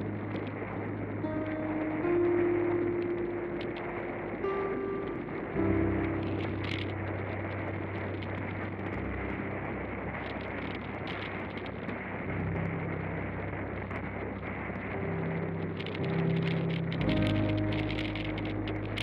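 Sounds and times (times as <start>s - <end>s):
low held music notes: 0.0s - 19.0s
wind and road rush: 0.0s - 19.0s.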